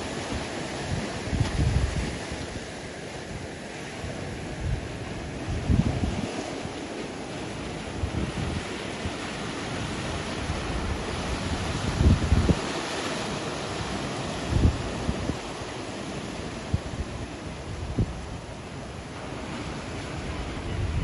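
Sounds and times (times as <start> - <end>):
sea waves breaking on shore: 0.0 - 21.0
wind buffeting microphone: 0.0 - 21.0.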